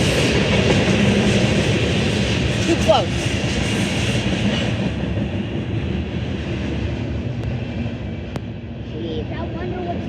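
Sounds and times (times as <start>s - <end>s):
freight train rumbling on track: 0.0s - 10.0s.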